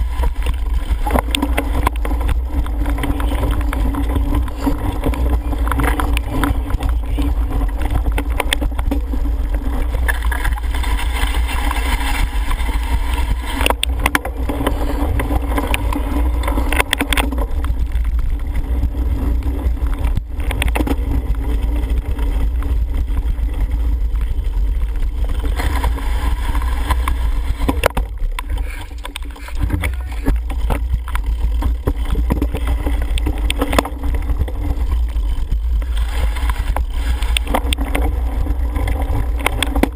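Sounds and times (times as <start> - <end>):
bike knocking over bumps: 0.0 - 39.9
wind rumble on microphone: 0.0 - 39.9.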